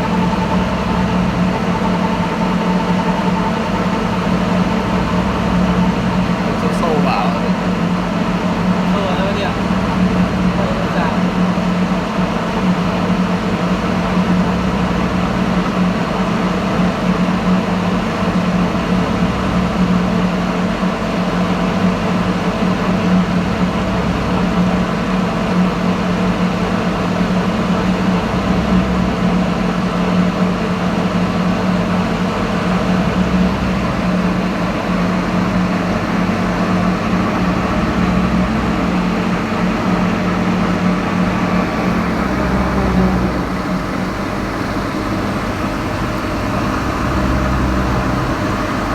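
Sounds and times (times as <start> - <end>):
lathe humming: 0.0 - 20.4, 27.1 - 48.9.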